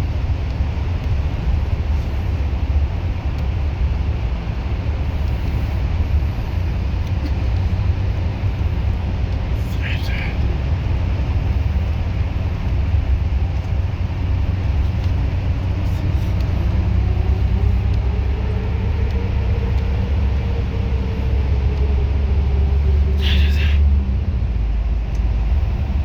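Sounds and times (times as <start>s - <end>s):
bus engine rumble and whine: 0.0s - 26.0s.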